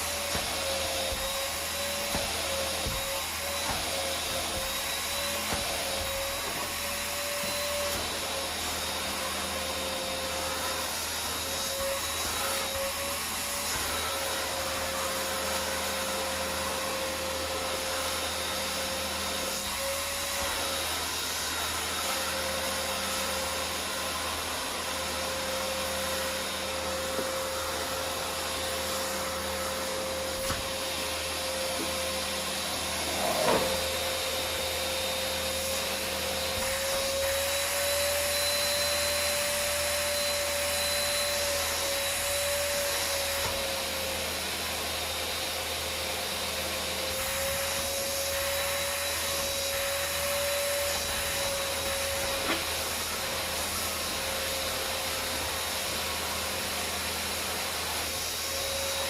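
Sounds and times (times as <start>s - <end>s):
vacuum cleaner whining: 0.0s - 59.0s.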